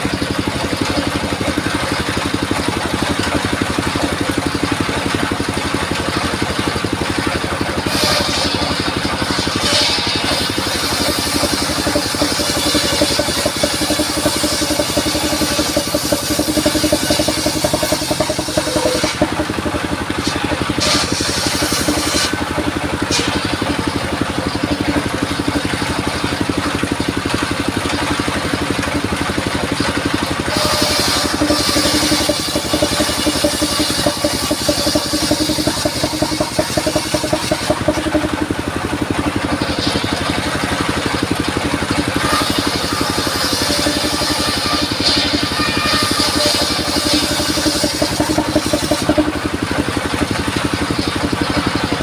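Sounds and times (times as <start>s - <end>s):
saw blade cutting wood: 0.0s - 52.0s
sawmill engine running: 0.0s - 52.0s.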